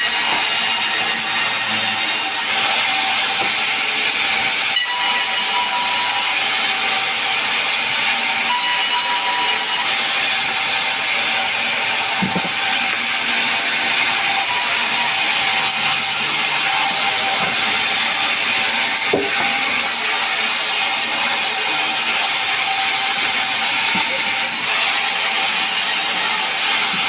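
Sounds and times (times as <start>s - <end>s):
saw cutting log whine: 0.0s - 27.0s.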